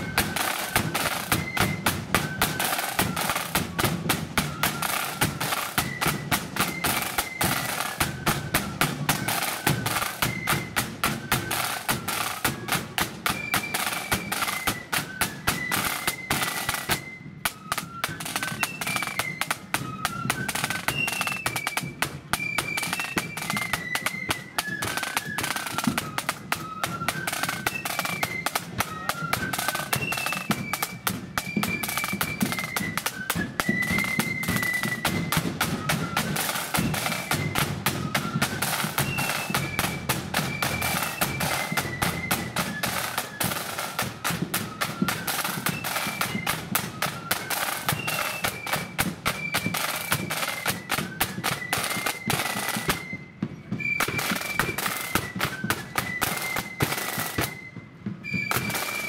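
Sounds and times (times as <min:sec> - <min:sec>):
high flute melody: 0:00.0 - 0:59.0
snare drum strokes: 0:00.0 - 0:59.0.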